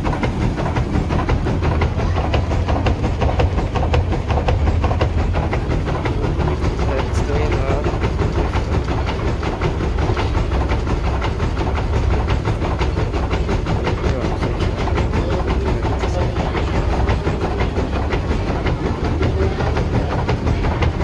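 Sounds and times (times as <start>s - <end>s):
millstones and gearing rumbling: 0.0s - 21.0s.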